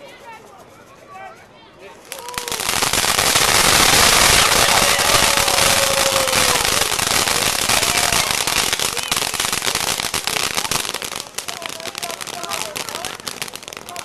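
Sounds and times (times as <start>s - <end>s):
fireworks crackling hiss: 2.0s - 14.0s
sharp firework pops: 2.1s - 14.0s.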